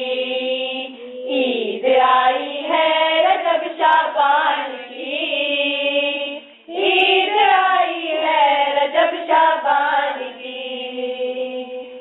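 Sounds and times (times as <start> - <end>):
girls singing together: 0.0 - 12.0.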